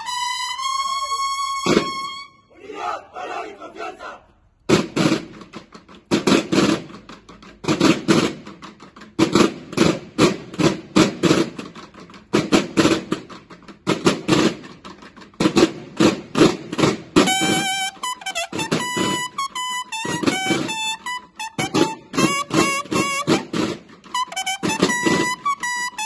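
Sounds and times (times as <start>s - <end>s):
marching snare drums: 1.6s - 2.2s, 4.7s - 26.0s.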